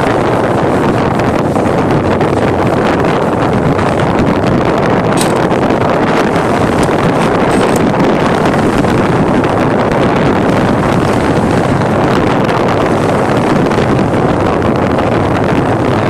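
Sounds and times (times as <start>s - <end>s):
boat rushing through water: 0.0s - 16.0s
wind buffeting microphone: 0.0s - 16.0s.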